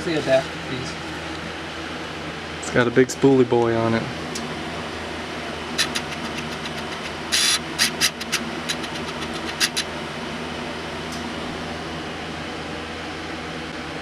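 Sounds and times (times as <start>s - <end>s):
fan humming: 0.0s - 14.0s.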